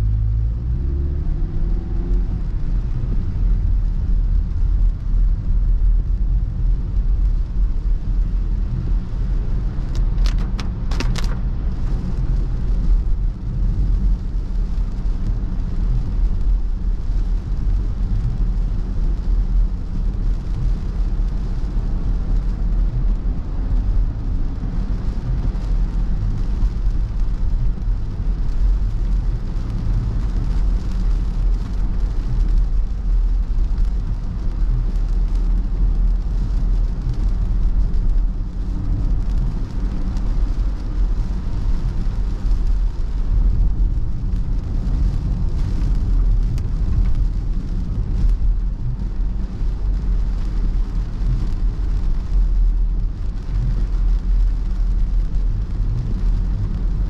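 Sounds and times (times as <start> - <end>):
engine and tyre rumble: 0.0 - 57.0
tyres hissing on wet road: 0.0 - 57.0.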